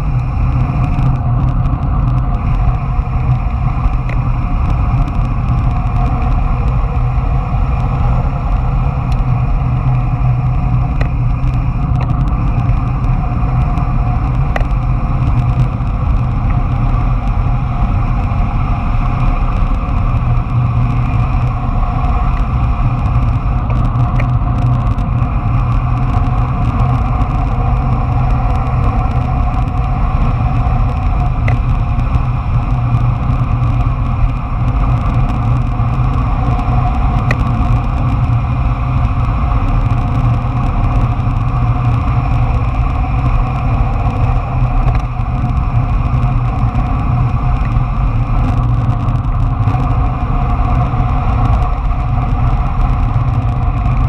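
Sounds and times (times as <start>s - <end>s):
skateboard wheels rolling on asphalt: 0.0s - 54.0s
wind rushing over camera: 0.0s - 54.0s.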